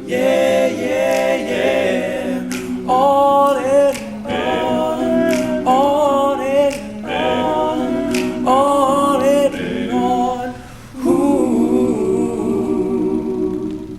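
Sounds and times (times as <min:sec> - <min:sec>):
men singing close harmony: 0:00.0 - 0:13.9.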